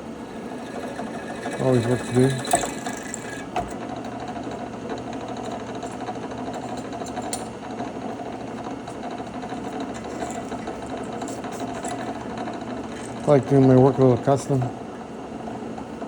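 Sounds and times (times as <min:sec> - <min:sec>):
drill press motor running: 0:00.0 - 0:16.0.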